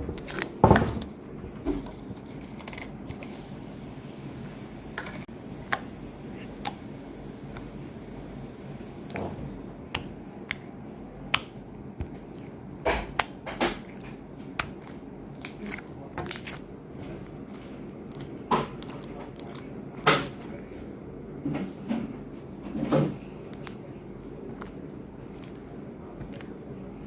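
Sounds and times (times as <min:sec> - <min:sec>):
slime squishing by hand: 0:00.0 - 0:03.6, 0:05.1 - 0:20.8, 0:22.8 - 0:27.0.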